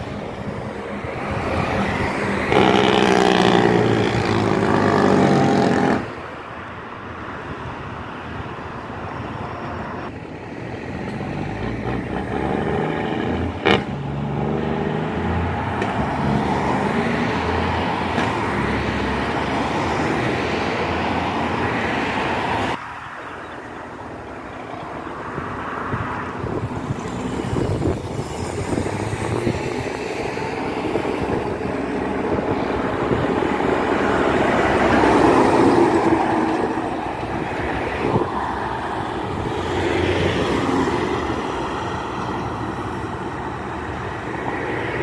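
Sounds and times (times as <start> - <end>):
car engines passing: 0.0 - 45.0.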